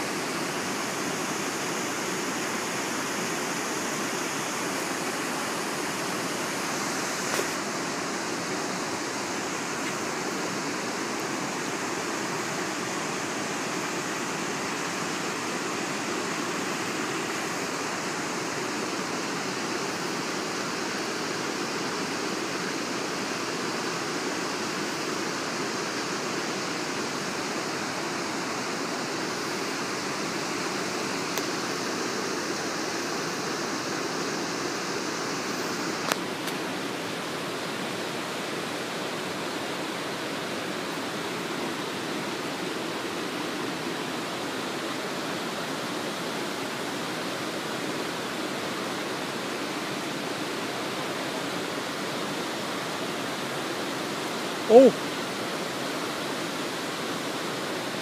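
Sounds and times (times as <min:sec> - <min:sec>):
river water rushing over rapids: 0:00.0 - 0:58.0.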